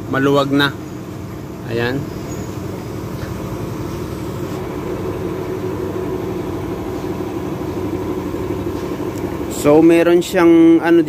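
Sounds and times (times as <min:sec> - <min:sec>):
motor humming: 0:00.7 - 0:10.1.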